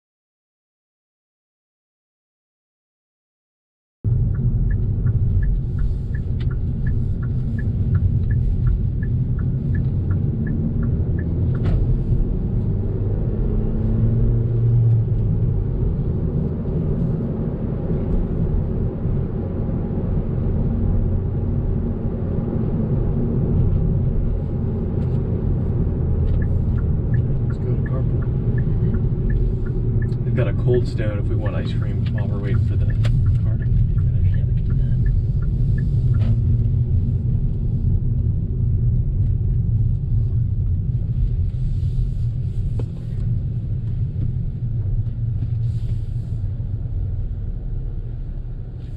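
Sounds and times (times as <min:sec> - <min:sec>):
car cabin road and engine rumble: 0:04.0 - 0:48.9
turn signal ticking: 0:04.1 - 0:48.8.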